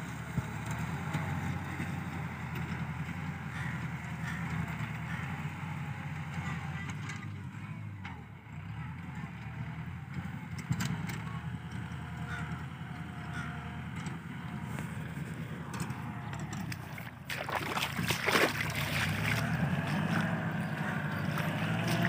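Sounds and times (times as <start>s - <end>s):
tractor diesel engine rumbling: 0.0s - 22.0s.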